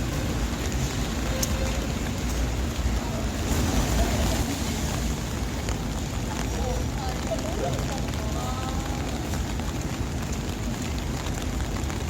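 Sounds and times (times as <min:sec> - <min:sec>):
rain hissing: 0:00.0 - 0:12.0
road traffic rumble: 0:00.0 - 0:12.0.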